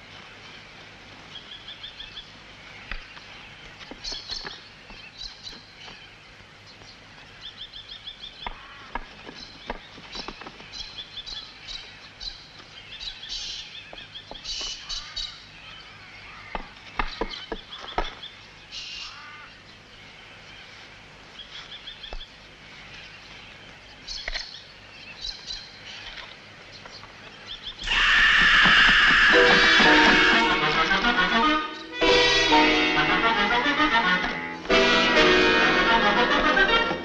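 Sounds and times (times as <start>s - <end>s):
birds chirping and trilling: 0.0s - 33.0s.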